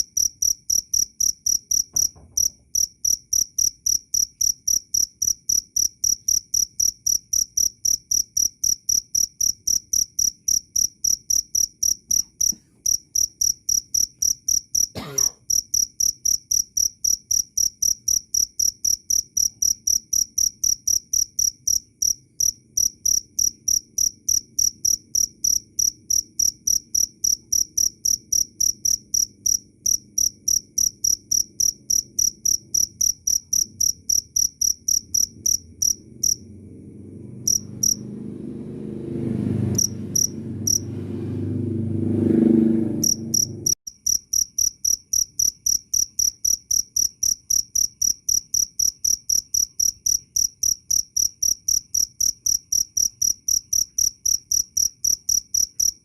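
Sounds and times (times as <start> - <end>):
cricket chirping: 0.0 - 38.1, 39.6 - 40.9, 43.0 - 56.0.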